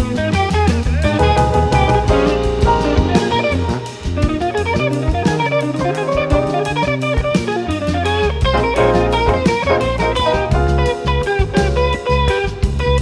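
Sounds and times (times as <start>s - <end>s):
bass: 0.0s - 13.0s
drum kit: 0.0s - 13.0s
guitar: 0.0s - 13.0s.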